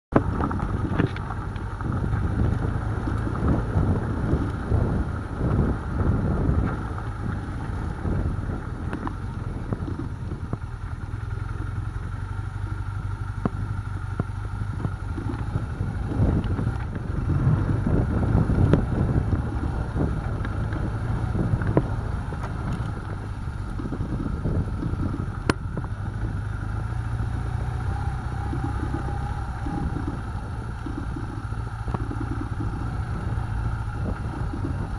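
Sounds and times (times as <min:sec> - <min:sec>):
motorcycle engine running: 0:00.1 - 0:34.9
wind buffeting microphone: 0:00.1 - 0:34.9.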